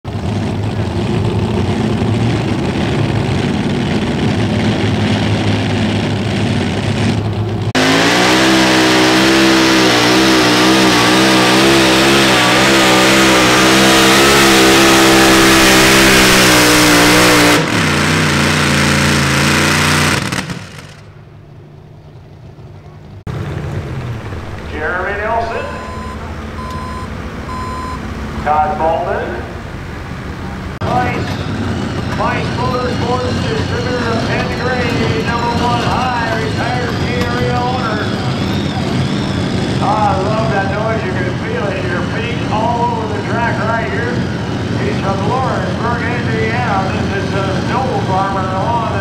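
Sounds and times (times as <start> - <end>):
pulling tractor engines roaring: 0.0 - 49.0.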